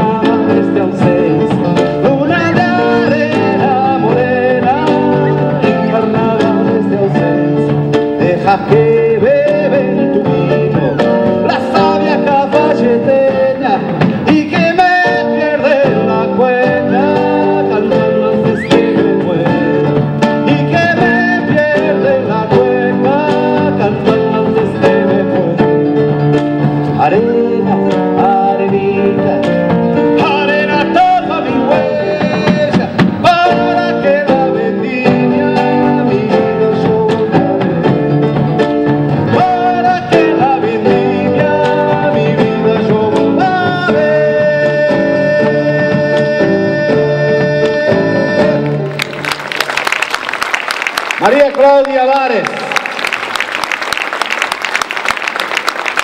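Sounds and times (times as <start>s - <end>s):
band playing latin song: 0.0s - 56.0s.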